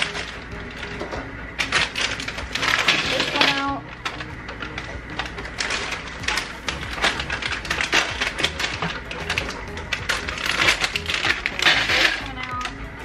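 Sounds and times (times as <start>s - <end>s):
frozen cubes clattering onto metal pan: 0.0s - 12.8s.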